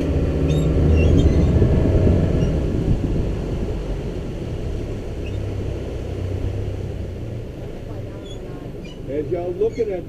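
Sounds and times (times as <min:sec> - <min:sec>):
boat motor droning: 0:00.0 - 0:10.0.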